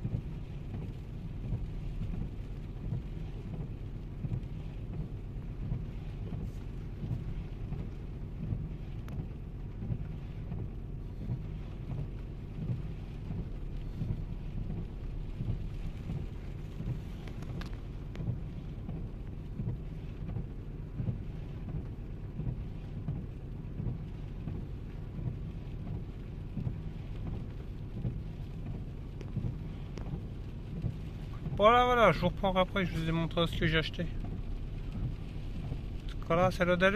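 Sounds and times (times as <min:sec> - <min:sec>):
low steady rumble: 0:00.0 - 0:36.9
rain drumming on car roof: 0:00.0 - 0:36.9.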